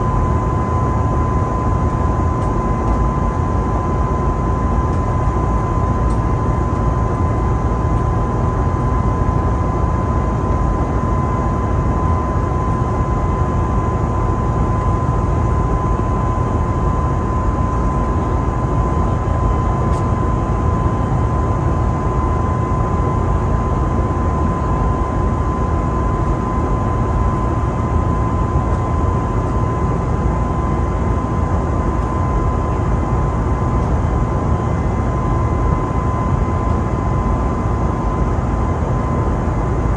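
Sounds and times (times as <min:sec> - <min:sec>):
airliner cabin engine rumble: 0:00.0 - 0:39.9
steady high whine: 0:00.0 - 0:39.9.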